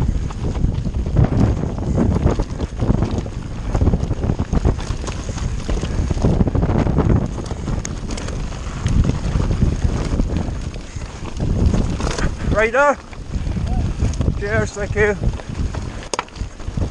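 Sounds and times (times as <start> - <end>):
bike rattling: 0.0 - 16.9
tyres crunching over loose stones: 0.0 - 16.9
wind rush on microphone: 0.0 - 16.9.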